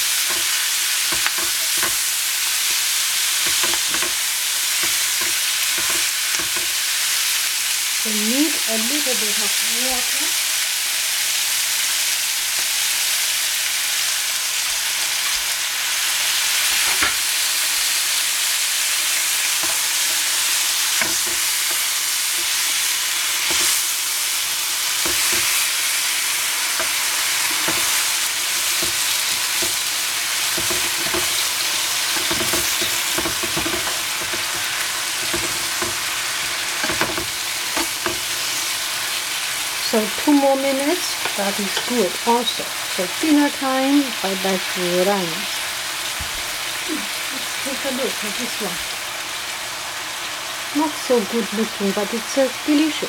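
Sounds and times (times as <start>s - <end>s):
vegetables sizzling in a frying pan: 0.0s - 53.0s.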